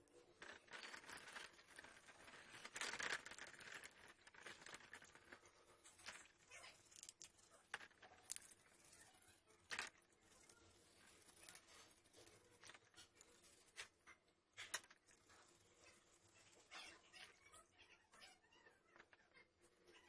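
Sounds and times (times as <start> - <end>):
scratching and rustling handwork: 0.0 - 20.0.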